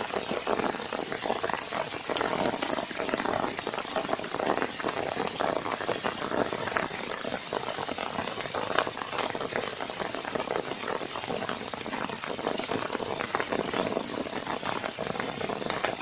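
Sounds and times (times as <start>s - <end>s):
heavy rain on a roof: 0.0s - 16.0s
insect trilling: 0.0s - 16.0s.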